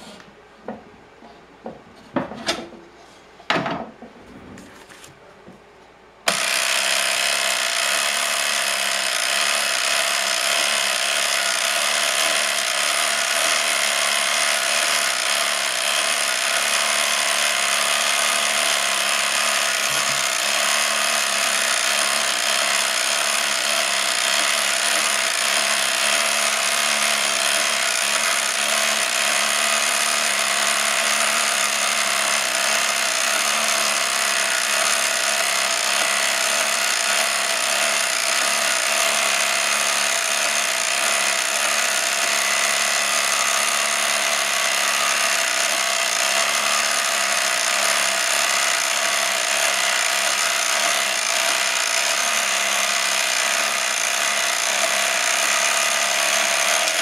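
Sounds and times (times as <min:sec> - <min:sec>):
clockwork mechanical whirring: 0:06.3 - 0:57.0.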